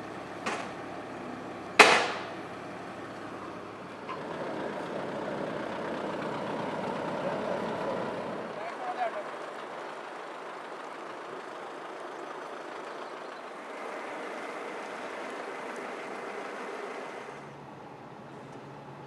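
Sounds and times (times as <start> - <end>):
heavy truck driving past: 0.0 - 19.0.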